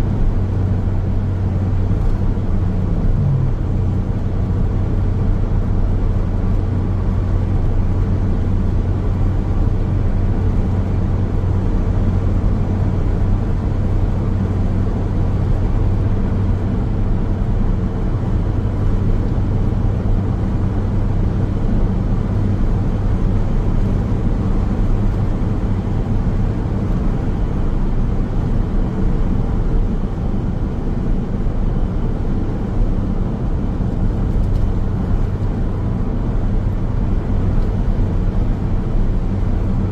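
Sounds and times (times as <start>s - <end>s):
car road noise on highway: 0.0s - 39.9s.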